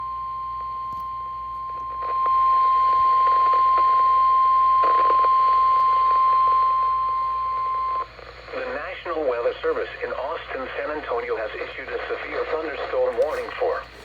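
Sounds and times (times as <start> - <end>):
radio hiss with crackles: 1.8 - 14.0.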